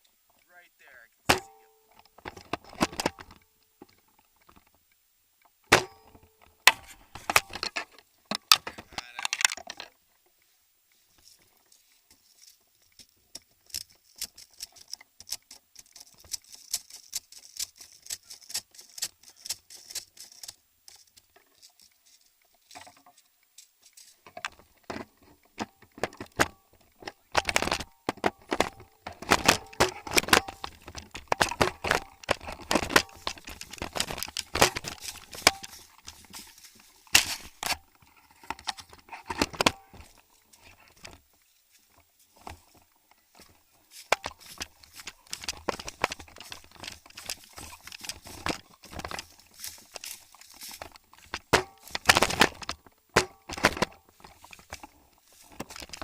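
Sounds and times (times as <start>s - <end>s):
sharp clicks and rattling: 1.3s - 4.8s, 5.7s - 10.0s, 12.4s - 41.2s, 41.9s - 56.0s.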